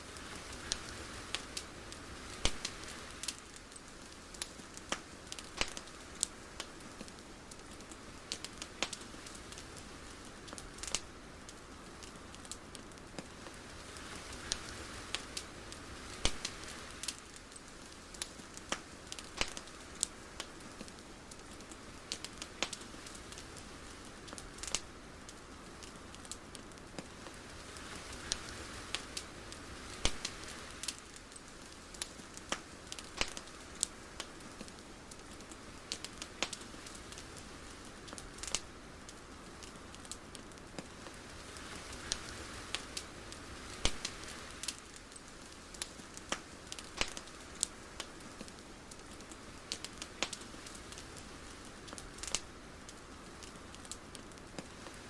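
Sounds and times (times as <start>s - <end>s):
sharp crackles and pops: 0.0s - 55.0s
soft hiss: 0.0s - 55.0s.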